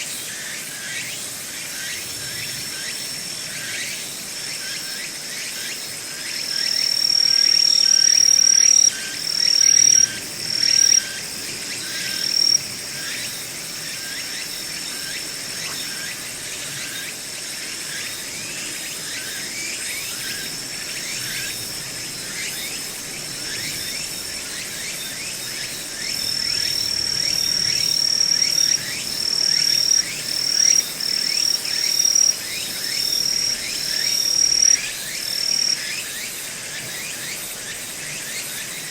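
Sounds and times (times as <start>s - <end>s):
insects trilling: 0.0s - 38.9s
insect chirps: 0.1s - 38.9s.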